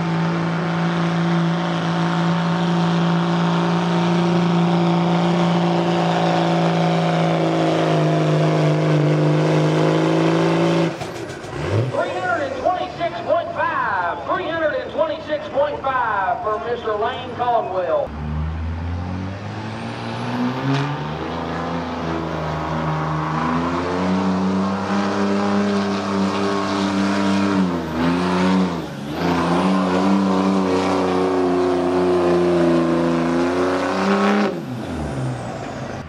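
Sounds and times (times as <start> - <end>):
diesel truck engine revving: 0.0 - 36.0.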